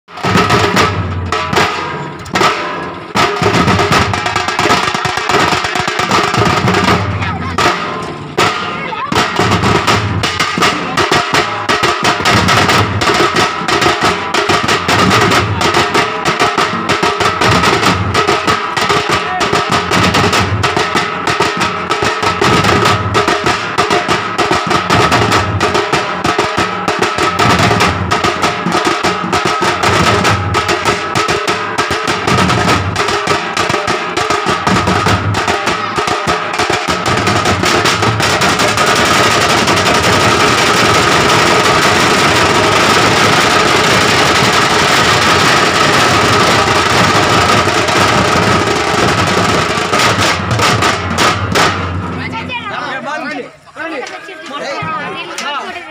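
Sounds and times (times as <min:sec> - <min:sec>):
frame drums beating fast rhythm: 0:00.1 - 0:53.2.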